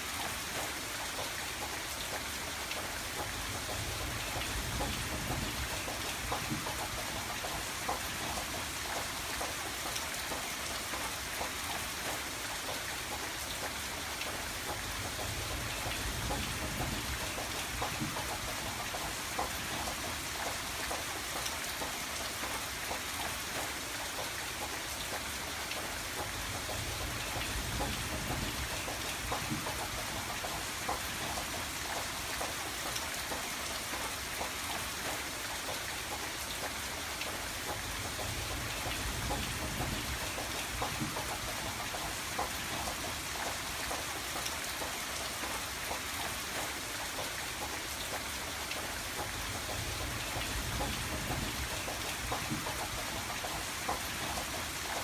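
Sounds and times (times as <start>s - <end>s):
rain falling on a window: 0.0s - 55.0s.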